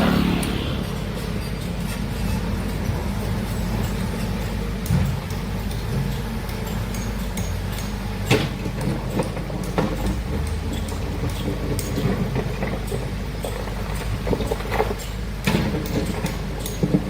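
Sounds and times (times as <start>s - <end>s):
heavy machinery diesel engine running: 0.0s - 17.0s
sharp metallic knocks: 0.0s - 17.0s.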